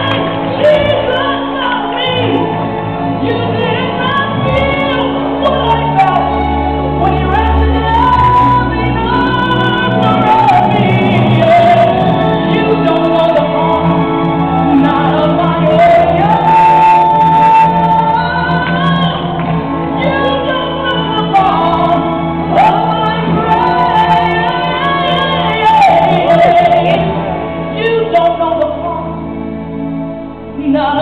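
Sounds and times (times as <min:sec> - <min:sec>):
woman singing gospel: 0:00.0 - 0:02.6, 0:03.2 - 0:06.4, 0:07.0 - 0:29.2
band with bass: 0:00.0 - 0:31.0.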